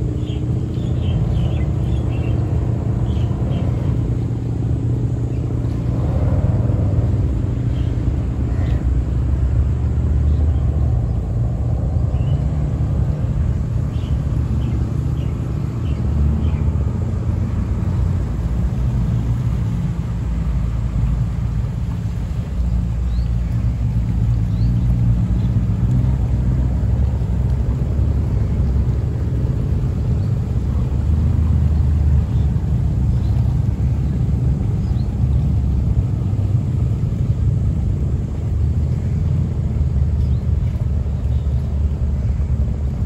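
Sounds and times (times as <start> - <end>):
boat engine rumbling: 0.0 - 43.0.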